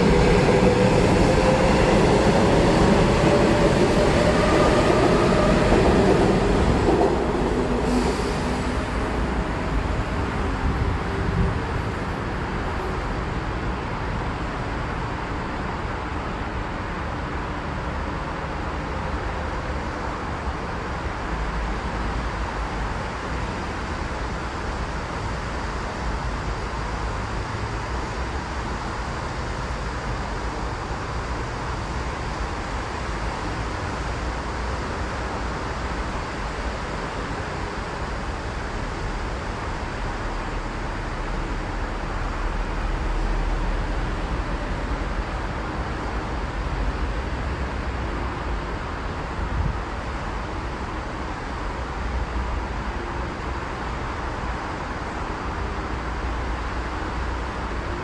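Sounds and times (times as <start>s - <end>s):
city traffic hiss: 0.0s - 58.0s.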